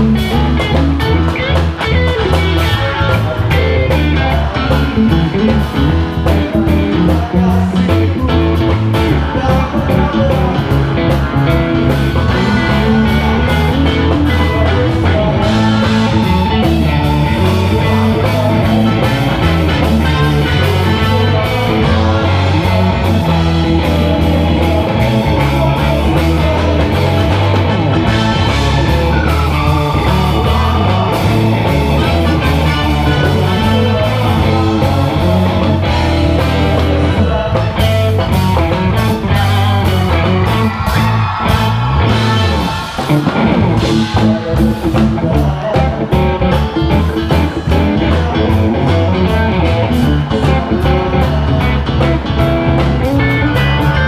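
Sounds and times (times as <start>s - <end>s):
drums: 0.0s - 54.0s
electric bass: 0.0s - 54.0s
electric guitar: 0.0s - 54.0s
keyboard: 0.0s - 54.0s
live rock band playing: 0.0s - 54.0s.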